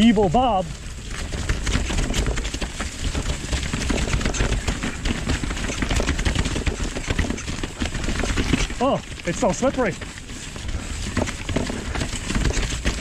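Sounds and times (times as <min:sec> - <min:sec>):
bike rattles and clicks: 0:00.0 - 0:13.0.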